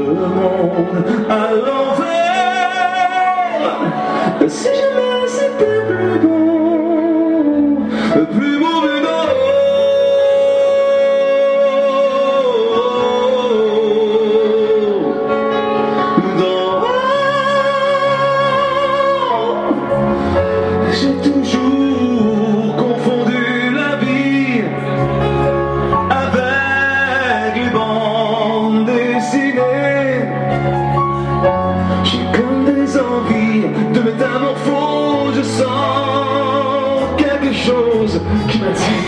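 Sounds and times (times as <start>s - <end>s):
man singing a slow ballad: 0.0s - 39.0s.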